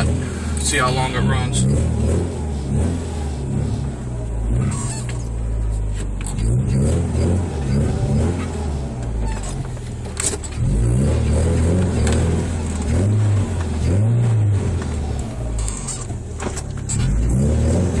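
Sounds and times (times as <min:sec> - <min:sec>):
car engine running: 0:00.0 - 0:18.0
road noise inside car: 0:00.0 - 0:18.0.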